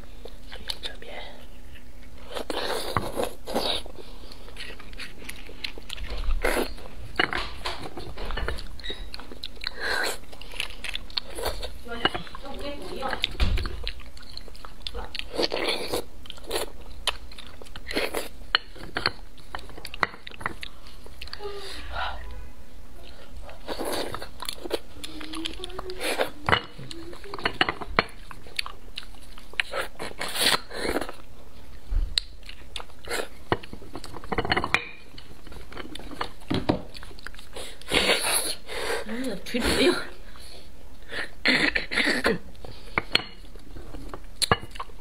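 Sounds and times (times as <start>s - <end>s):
wet chewing and mouth sounds: 0.0s - 45.0s.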